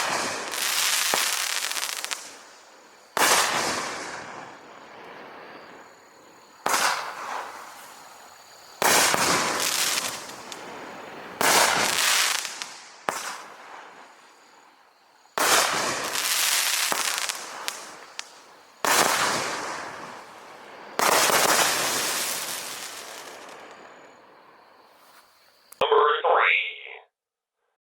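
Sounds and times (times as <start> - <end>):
firework bangs: 0.0 - 14.6, 15.3 - 24.2.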